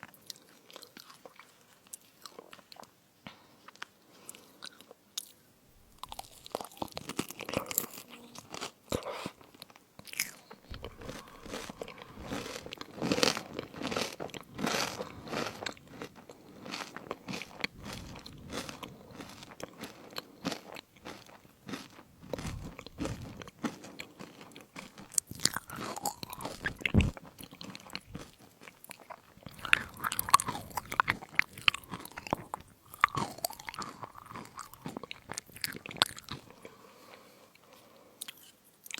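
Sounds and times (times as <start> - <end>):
crunching and chewing crisps: 0.0 - 38.9.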